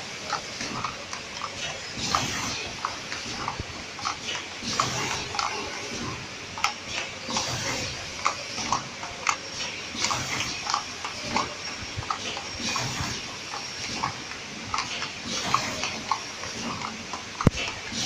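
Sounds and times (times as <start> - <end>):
packaging machine hissing: 0.0 - 18.0
machine squeaks and clicks: 0.2 - 18.0.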